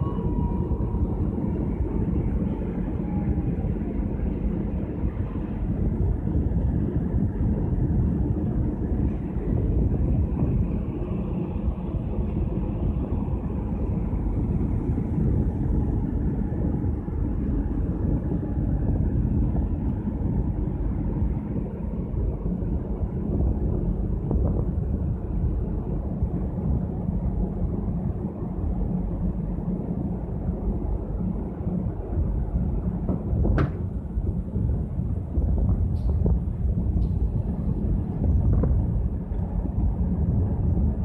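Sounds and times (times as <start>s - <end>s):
faint machinery hum: 0.0s - 41.0s
wind buffeting microphone: 0.0s - 41.0s.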